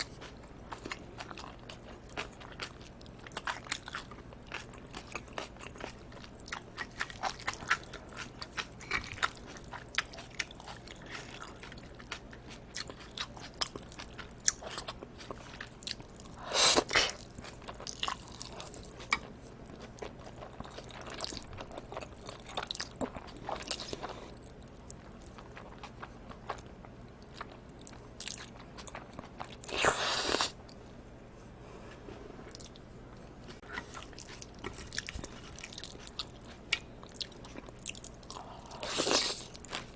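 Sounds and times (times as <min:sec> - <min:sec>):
close chewing with mouth clicks: 0:00.0 - 0:30.8, 0:33.5 - 0:39.9.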